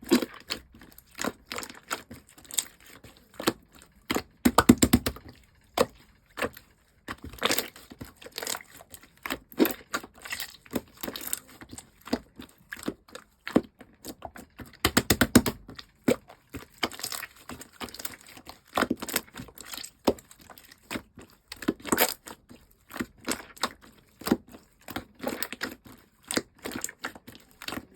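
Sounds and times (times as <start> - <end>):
slime squished by hand: 0.0 - 22.4.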